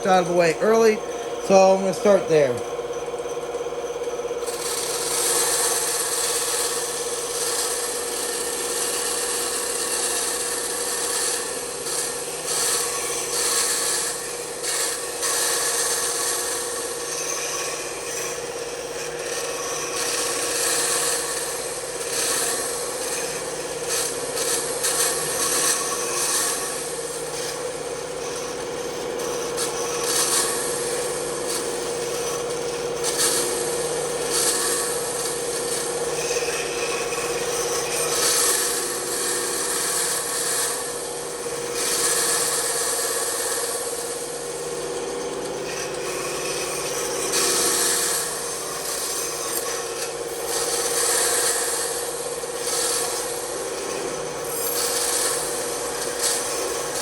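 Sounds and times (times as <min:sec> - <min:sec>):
bandsaw humming: 0:00.0 - 0:57.0
saw blade rasping through wood: 0:04.4 - 0:57.0.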